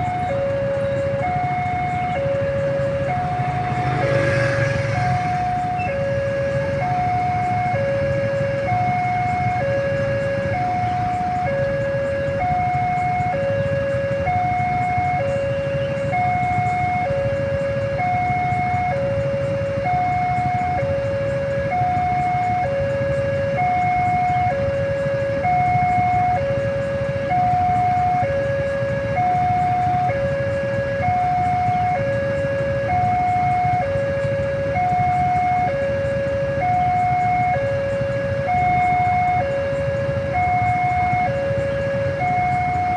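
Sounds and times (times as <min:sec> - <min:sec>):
level-crossing alarm two-tone: 0:00.0 - 0:42.9
vehicle engines idling: 0:00.0 - 0:42.9.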